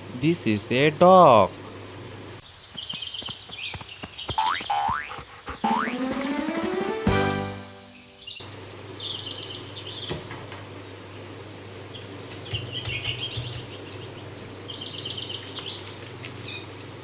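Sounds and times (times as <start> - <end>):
small birds chirping: 0.0 - 5.6, 7.9 - 17.0.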